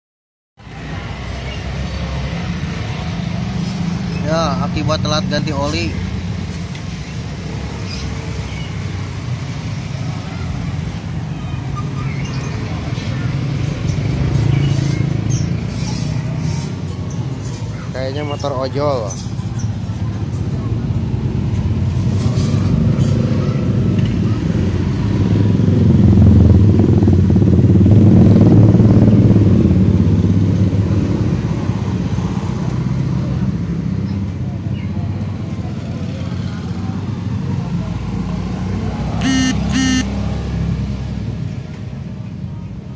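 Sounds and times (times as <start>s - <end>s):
vehicle engines rumbling: 0.6s - 42.9s.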